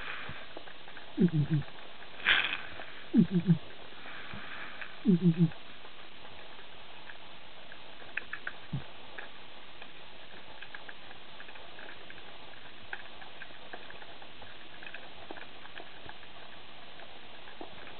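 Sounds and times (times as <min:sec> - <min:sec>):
sharp clicks and ticks: 0:00.3 - 0:03.8, 0:04.8 - 0:17.9.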